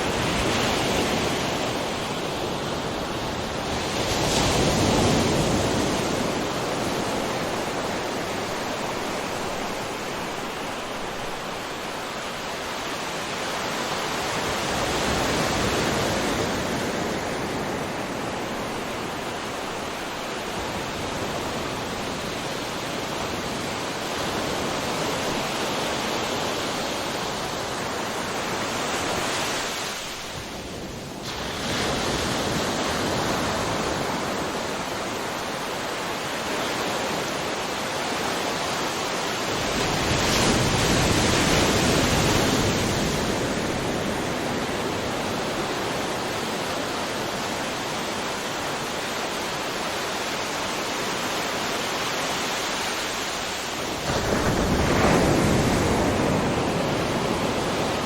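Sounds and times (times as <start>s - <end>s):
ocean waves crashing on shore: 0.0s - 58.0s.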